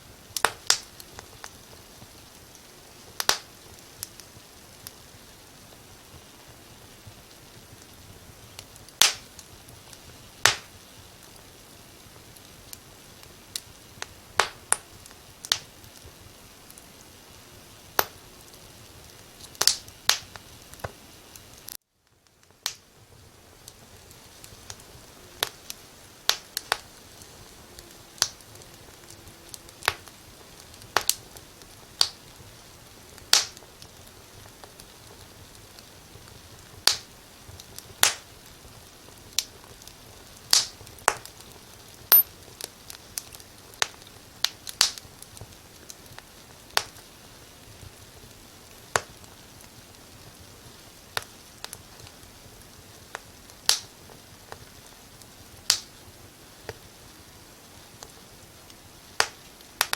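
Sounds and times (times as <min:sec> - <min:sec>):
soft steady hiss: 0:00.0 - 0:59.9
wood fire crackling: 0:00.0 - 0:59.9.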